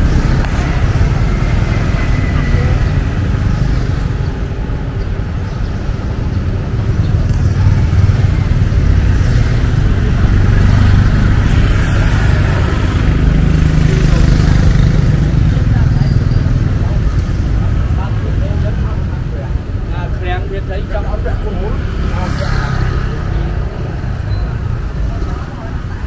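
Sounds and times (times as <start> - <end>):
motorbike and car engines passing: 0.0 - 26.0.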